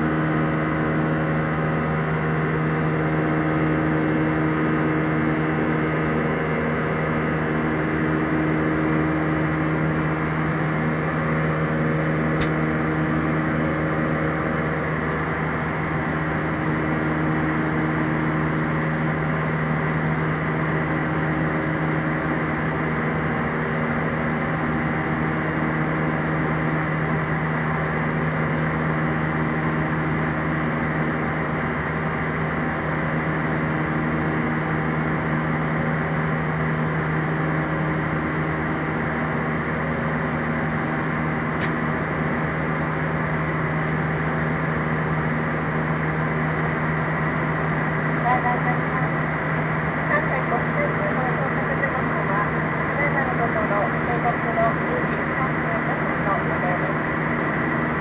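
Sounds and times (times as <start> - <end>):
jet engines droning in cabin: 0.0 - 58.0.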